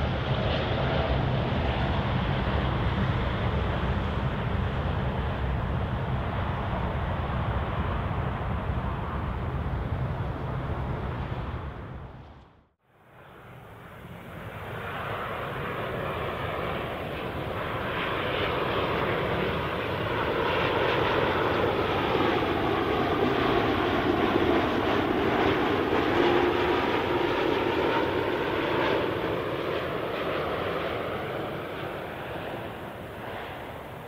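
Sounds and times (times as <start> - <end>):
jet airliner engines: 0.0 - 34.0.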